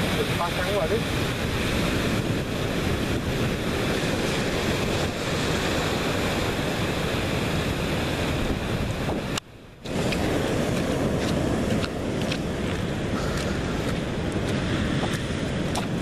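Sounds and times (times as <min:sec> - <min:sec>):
surf breaking over rocks: 0:00.0 - 0:16.0
wind on the microphone: 0:00.0 - 0:16.0.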